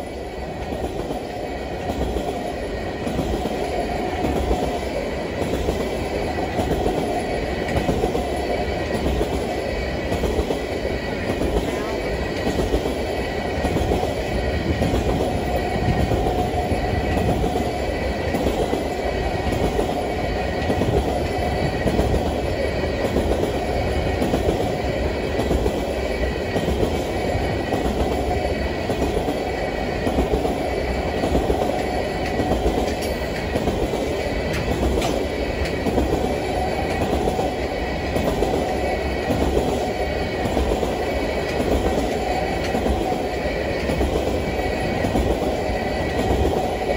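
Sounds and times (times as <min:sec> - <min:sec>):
train wheels clacking on rails: 0:00.0 - 0:46.9.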